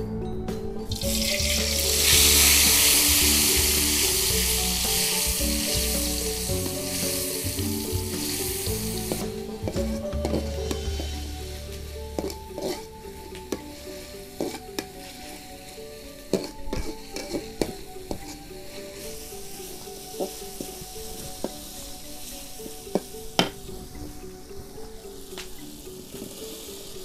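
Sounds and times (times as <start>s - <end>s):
paste sizzling: 1.0s - 27.0s
spatula scraping metal wok: 1.6s - 23.8s.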